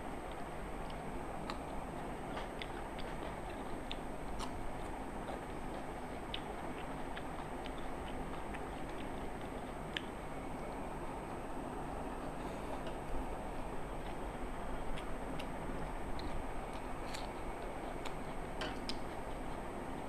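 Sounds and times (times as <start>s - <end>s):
steady background noise: 0.0s - 20.0s
people chewing: 0.3s - 11.4s, 12.1s - 20.0s.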